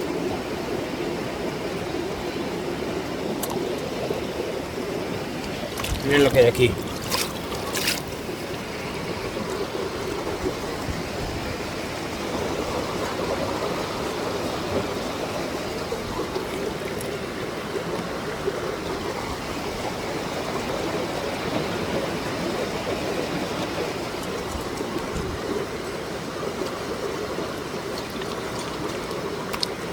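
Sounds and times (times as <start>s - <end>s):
mountain stream flowing: 0.0s - 29.9s.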